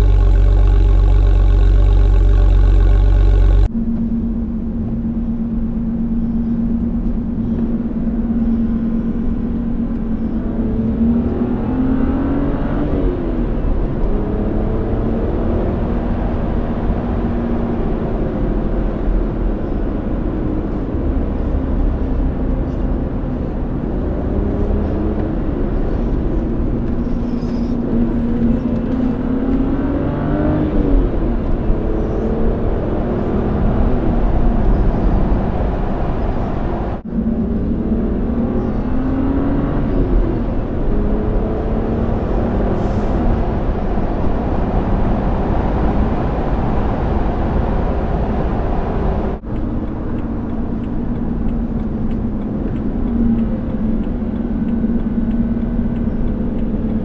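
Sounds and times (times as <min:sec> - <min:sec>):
car engine droning and revving: 0:00.0 - 0:57.0.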